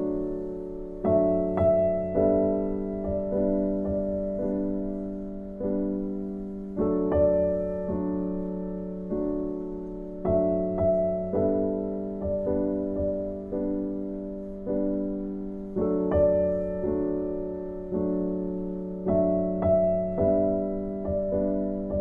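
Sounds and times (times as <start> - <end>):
soft piano chords: 0.0 - 22.0.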